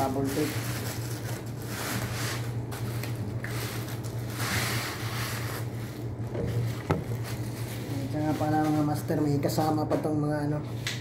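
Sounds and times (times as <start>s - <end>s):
bubble wrap crinkling: 0.0s - 9.7s.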